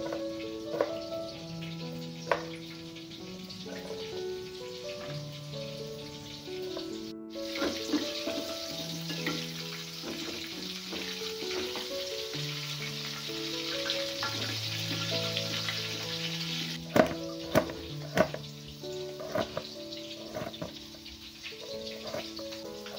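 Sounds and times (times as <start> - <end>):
tofu sizzling in hot oil: 0.0 - 22.9.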